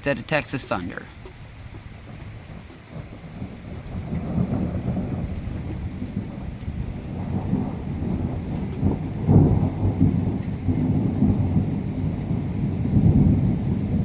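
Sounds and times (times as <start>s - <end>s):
steady rain: 0.0s - 14.0s
rolling thunder rumbling: 1.5s - 14.0s.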